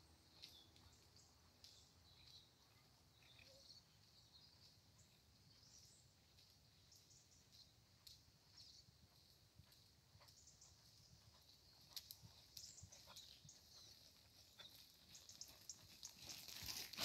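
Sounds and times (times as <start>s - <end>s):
birds chirping: 0.3s - 16.7s.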